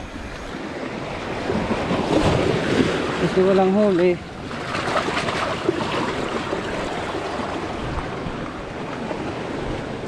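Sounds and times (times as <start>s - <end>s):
sea waves on beach: 0.0s - 10.0s
wind rumbling on microphone: 0.0s - 10.0s.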